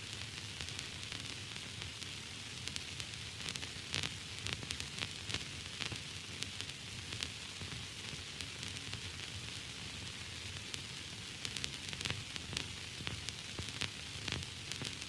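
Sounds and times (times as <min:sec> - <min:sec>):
crackles and pops: 0:00.0 - 0:15.0
static hiss: 0:00.0 - 0:15.0.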